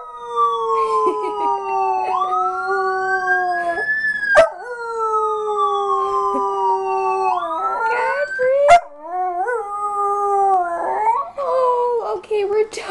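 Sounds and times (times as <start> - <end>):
siren wailing from speaker: 0.0 - 11.3.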